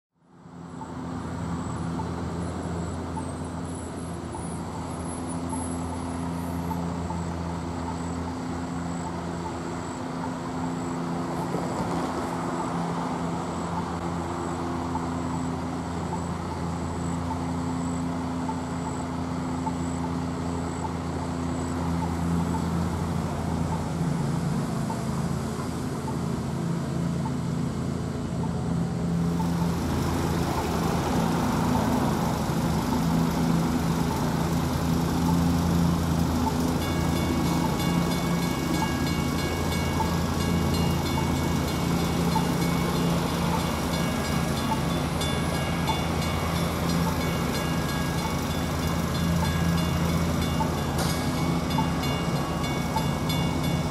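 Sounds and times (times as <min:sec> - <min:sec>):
traffic engines idling and passing: 0:00.2 - 0:53.9.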